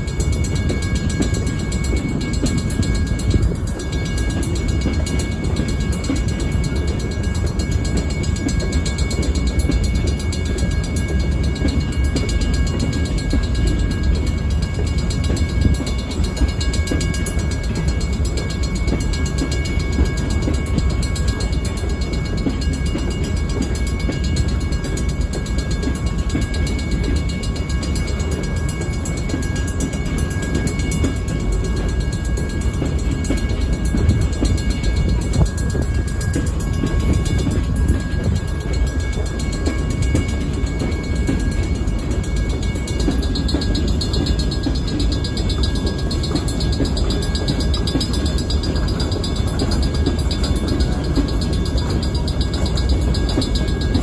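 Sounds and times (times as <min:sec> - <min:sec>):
thin high ringing tones: 0:00.0 - 0:54.0
train wheels rumbling on rail: 0:00.0 - 0:54.0.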